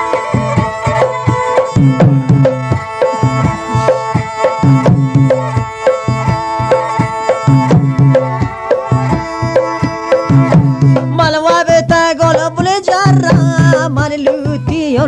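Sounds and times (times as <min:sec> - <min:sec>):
hand drum strokes: 0:00.0 - 0:15.0
sustained instrumental tones: 0:00.0 - 0:15.0.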